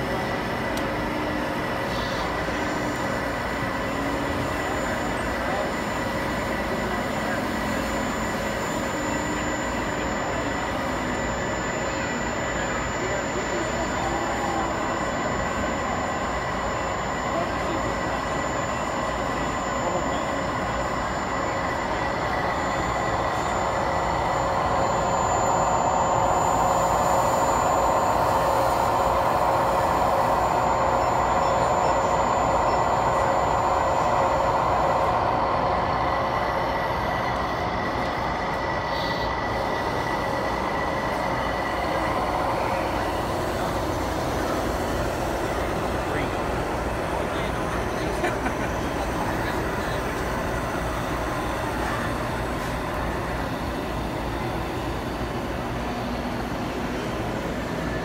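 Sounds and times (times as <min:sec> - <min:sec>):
electric motors and pumps whining: 0:00.0 - 0:58.0.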